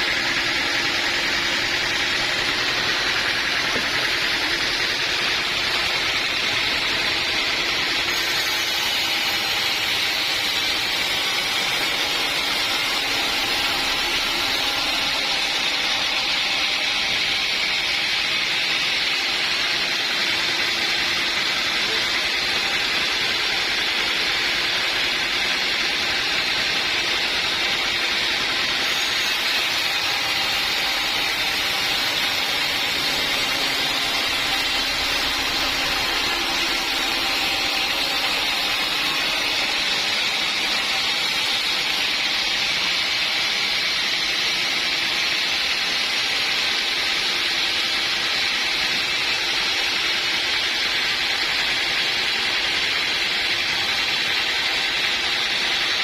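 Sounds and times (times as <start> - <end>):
saw hissing through log: 0.0 - 56.0.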